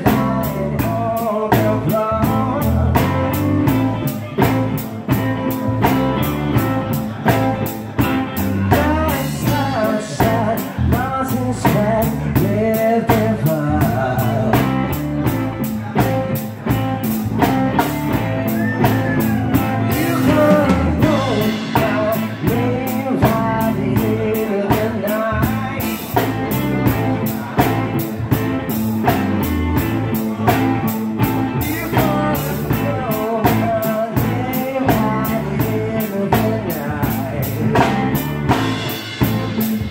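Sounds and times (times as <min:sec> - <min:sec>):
drum kit: 0:00.0 - 0:39.9
electric bass: 0:00.0 - 0:39.9
electric guitar: 0:00.0 - 0:39.9
man singing: 0:00.0 - 0:39.9.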